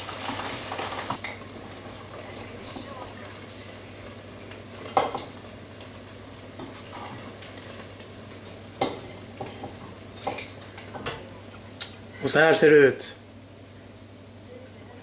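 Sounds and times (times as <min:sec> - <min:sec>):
oil sizzling in deep fryer: 0:00.0 - 0:15.0.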